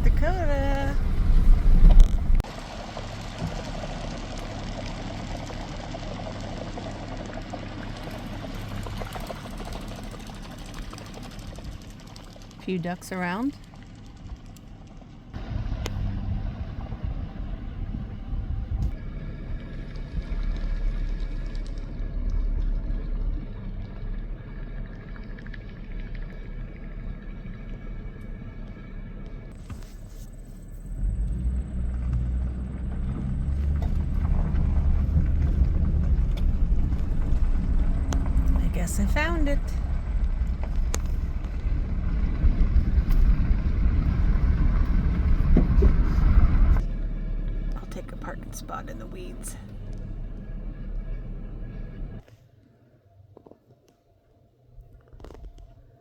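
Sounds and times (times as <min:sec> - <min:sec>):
vehicle engine and road rumble: 0:00.0 - 0:52.7, 0:54.8 - 0:56.0.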